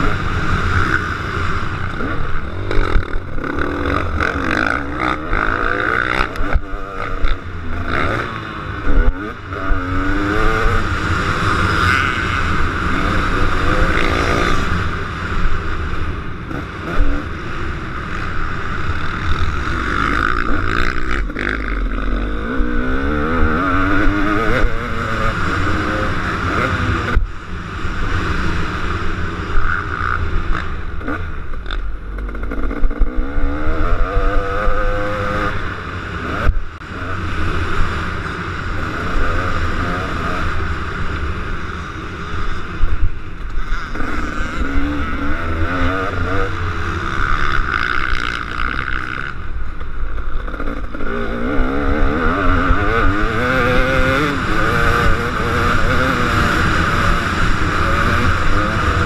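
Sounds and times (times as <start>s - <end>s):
motocross bike engine revving: 0.0s - 59.0s
steady rushing noise: 0.0s - 59.0s.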